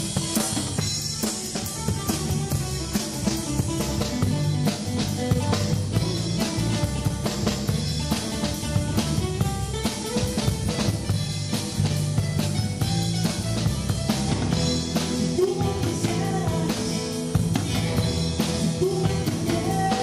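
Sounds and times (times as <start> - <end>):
drum kit hit hard and fast: 0.0 - 20.0
strummed guitar: 0.0 - 20.0.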